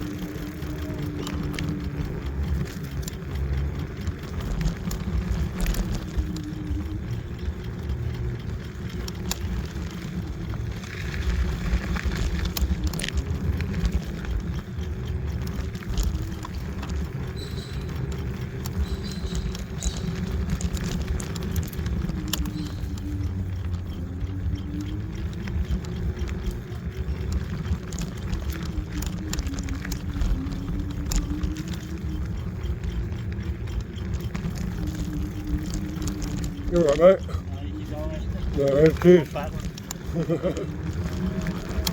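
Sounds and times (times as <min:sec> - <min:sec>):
electric scooter motor whine: 0:00.0 - 0:41.9
sharp clicks and knocks: 0:00.0 - 0:41.9
wind buffeting: 0:00.0 - 0:41.9.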